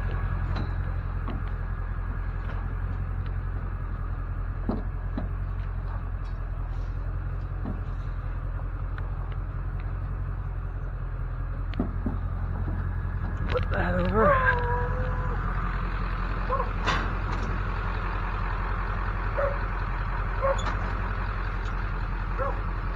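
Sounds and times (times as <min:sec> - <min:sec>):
vehicle engine idling: 0:00.0 - 0:22.9.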